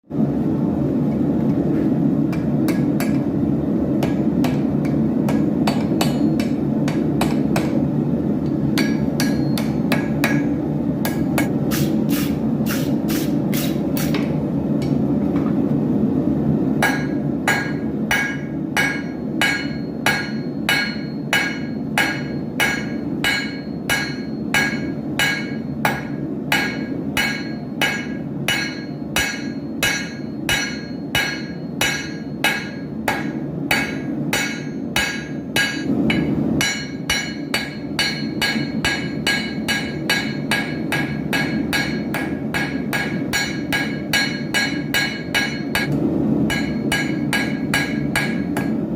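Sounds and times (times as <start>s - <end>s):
hammer striking anvil: 2.3s - 3.3s, 4.0s - 7.8s, 8.7s - 11.6s, 16.8s - 48.9s.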